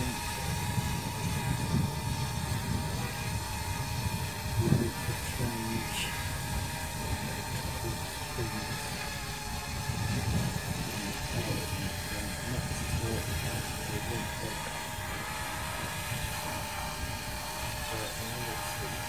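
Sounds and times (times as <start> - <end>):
drone propellers whining: 0.0 - 19.0
wind rumbling on microphone: 0.0 - 19.0.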